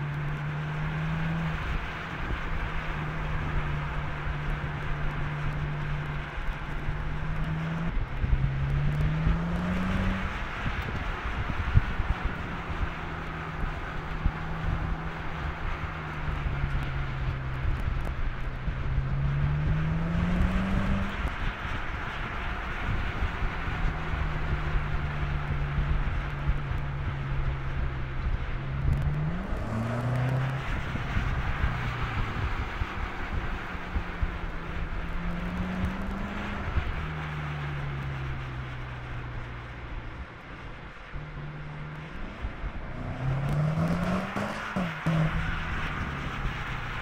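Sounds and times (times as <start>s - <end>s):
car engine accelerating: 0.0s - 47.0s
tyre and wind noise: 0.0s - 47.0s.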